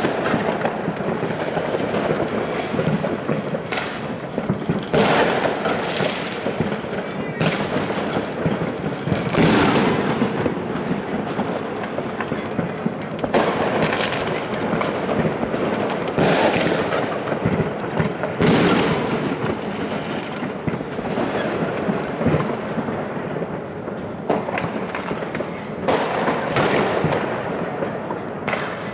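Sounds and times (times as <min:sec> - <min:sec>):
fireworks crackling and popping: 0:00.0 - 0:28.9
loud firework bangs echoing: 0:00.0 - 0:28.9.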